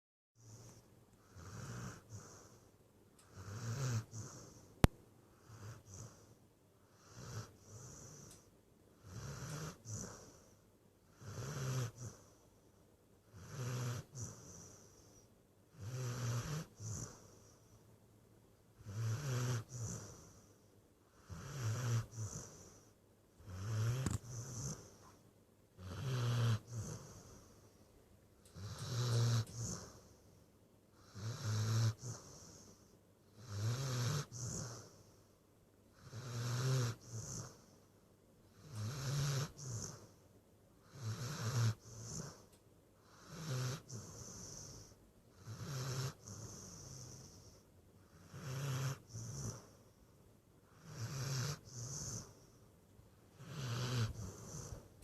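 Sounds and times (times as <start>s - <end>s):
dog snoring: 0.4s - 12.6s, 13.2s - 17.8s, 18.8s - 25.2s, 25.8s - 27.8s, 28.4s - 30.4s, 31.0s - 35.2s, 35.9s - 37.9s, 38.5s - 40.2s, 40.8s - 50.0s, 50.6s - 52.6s, 53.3s - 55.0s.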